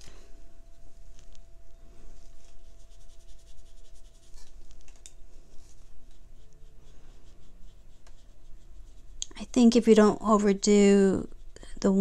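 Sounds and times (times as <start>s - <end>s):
paintbrush strokes on paper: 0.0s - 12.0s.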